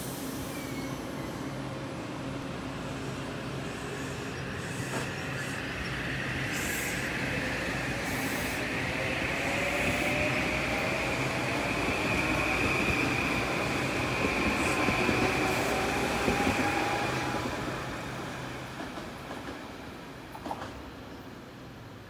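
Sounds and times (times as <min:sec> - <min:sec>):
train wheels on rails: 0:02.4 - 0:21.2.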